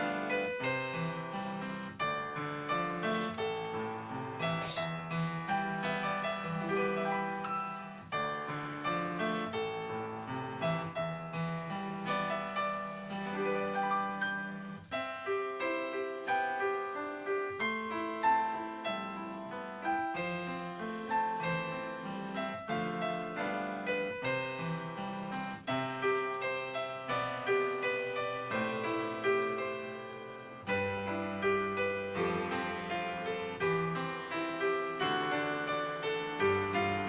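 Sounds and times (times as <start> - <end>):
slow solo piano melody: 0.0 - 37.0.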